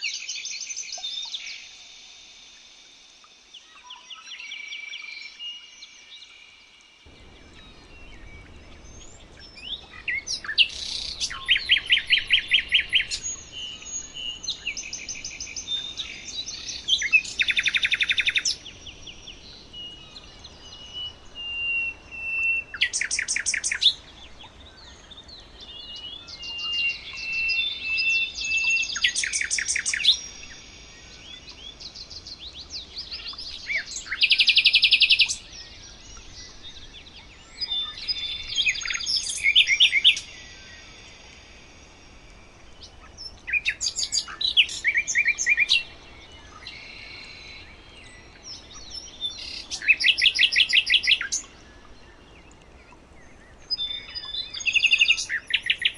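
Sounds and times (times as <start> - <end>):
songbirds trilling: 3.6 - 55.9.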